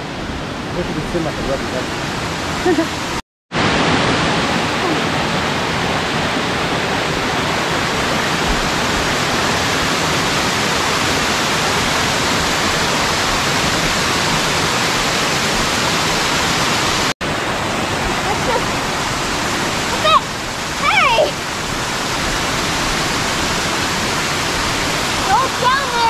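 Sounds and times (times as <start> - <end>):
waterfall rushing over rocks: 0.0 - 26.0.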